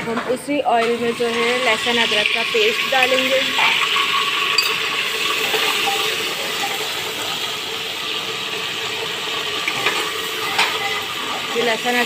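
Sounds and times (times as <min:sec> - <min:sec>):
paste sizzling in hot oil: 0:01.0 - 0:12.0.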